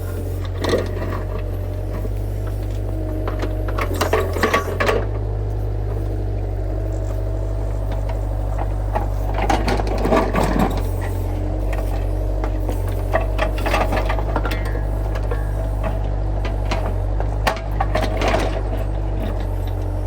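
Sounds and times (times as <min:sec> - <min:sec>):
excavator engine running: 0:00.0 - 0:20.0
bucket clanking and scraping rock: 0:00.4 - 0:05.2, 0:07.0 - 0:19.8.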